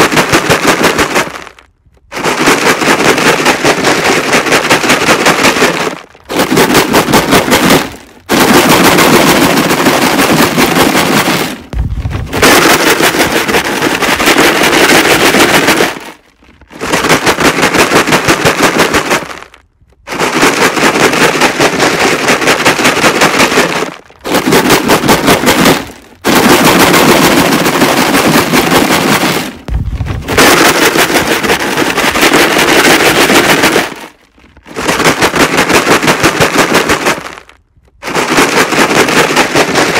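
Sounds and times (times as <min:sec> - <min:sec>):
rocks rattling in plastic jug: 0:00.0 - 0:39.9.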